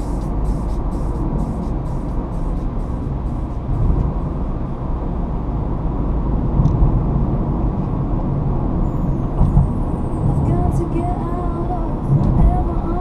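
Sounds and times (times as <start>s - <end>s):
car driving at highway speed: 0.0s - 13.0s.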